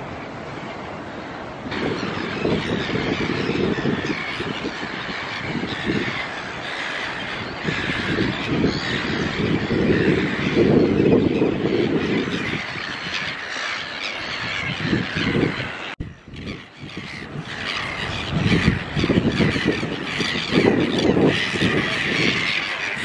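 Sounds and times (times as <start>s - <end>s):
wind buffeting microphone: 0.0s - 23.0s
gull colony calling: 1.7s - 23.0s.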